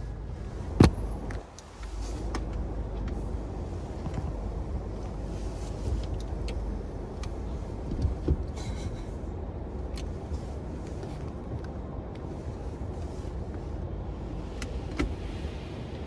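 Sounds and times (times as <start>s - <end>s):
car wash machinery rumble: 0.0s - 16.0s.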